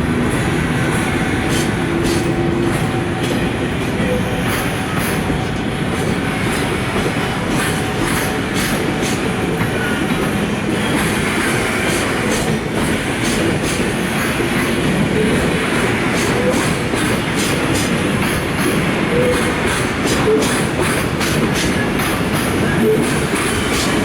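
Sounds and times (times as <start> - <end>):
train rumble: 0.0 - 24.0
train wheels clicking over rail joints: 0.0 - 24.0.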